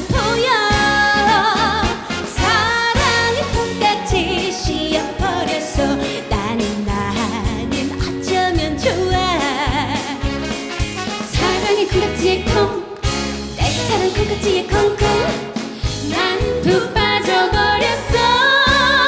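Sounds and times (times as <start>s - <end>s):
woman singing with vibrato: 0.0s - 10.3s, 11.4s - 12.9s, 13.6s - 19.0s
backing band with drum beat: 0.0s - 19.0s.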